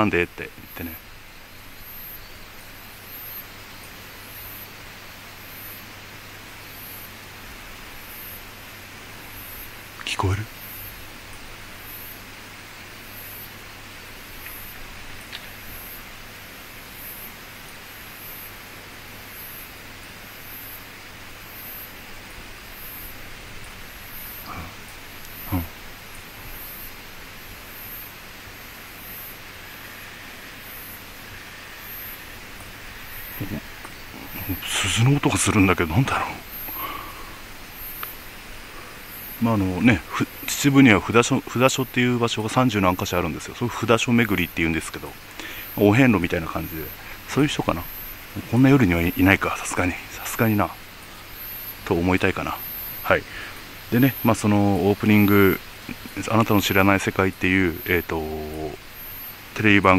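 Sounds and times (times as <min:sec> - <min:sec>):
high insect chirp: 0:00.0 - 0:59.9
night outdoor ambience hiss: 0:00.0 - 0:59.9.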